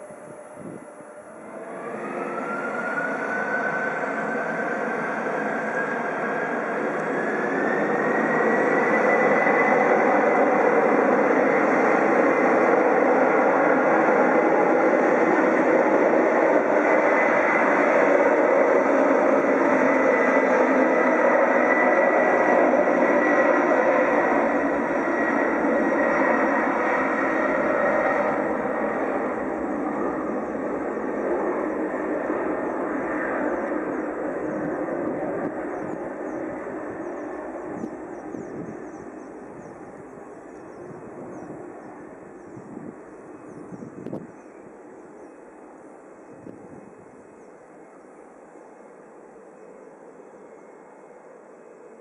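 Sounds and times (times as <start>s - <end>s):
jet engines at take-off power: 0.0s - 52.0s.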